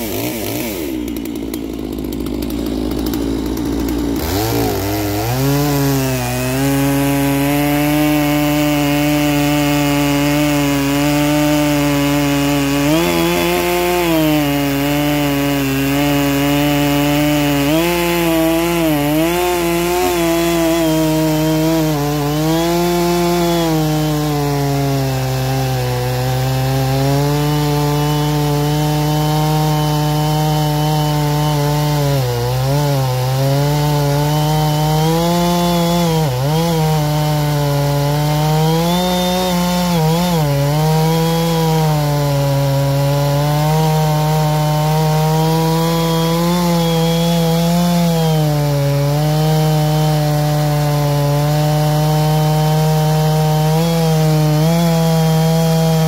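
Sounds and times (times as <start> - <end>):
chainsaw cutting a log: 0.0 - 56.0.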